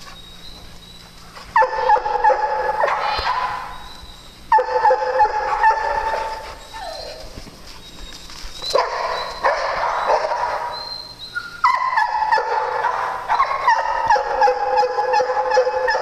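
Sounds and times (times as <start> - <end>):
dogs whining yips: 0.0 - 16.0.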